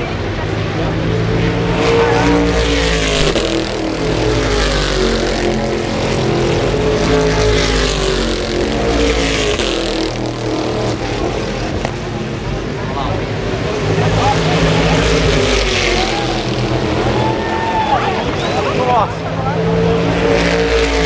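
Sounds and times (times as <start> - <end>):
racing cars passing by: 0.0 - 21.0.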